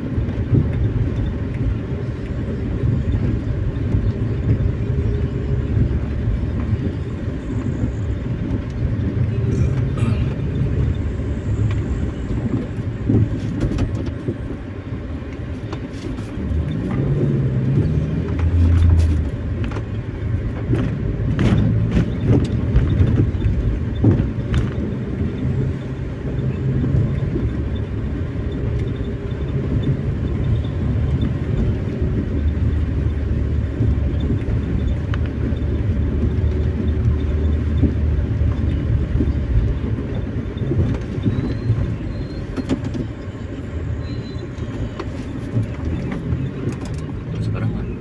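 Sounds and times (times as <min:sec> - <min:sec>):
engine and tyre rumble: 0:00.0 - 0:48.0.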